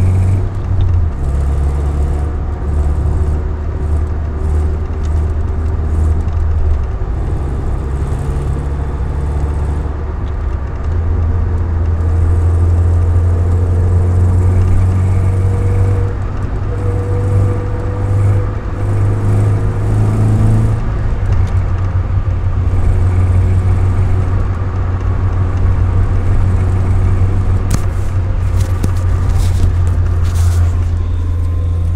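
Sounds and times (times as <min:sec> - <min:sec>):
car engine revving: 0:00.0 - 0:31.9
exhaust ticking: 0:00.0 - 0:31.9.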